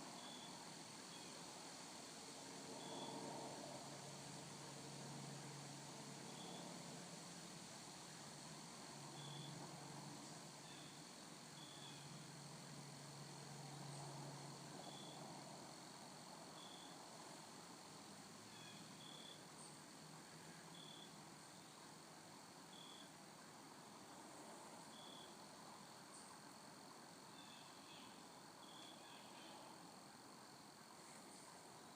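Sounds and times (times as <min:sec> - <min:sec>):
insect chirps: 0:00.1 - 0:31.9.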